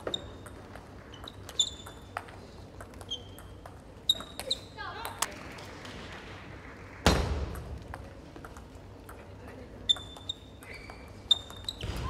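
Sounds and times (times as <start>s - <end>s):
table tennis ball bouncing: 0.0s - 5.4s, 7.1s - 12.0s.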